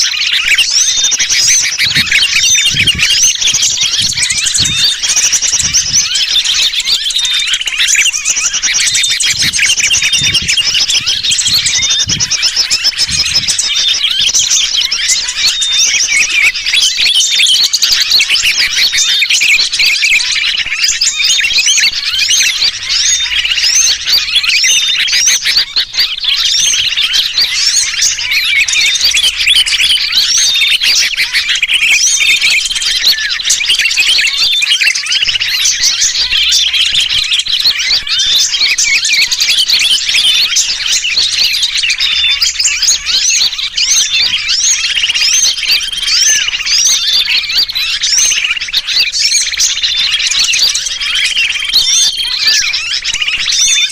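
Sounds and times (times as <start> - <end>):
bird distress calls: 0.0 - 53.9
chorus of small birds chattering: 0.0 - 53.9.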